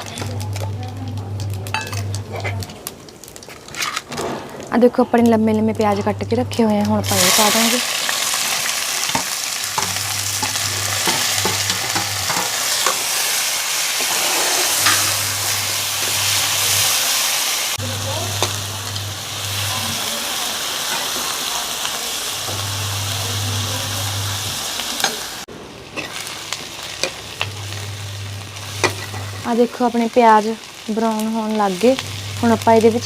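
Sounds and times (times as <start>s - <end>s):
onions sizzling in oil: 0.0s - 4.0s, 4.8s - 33.0s.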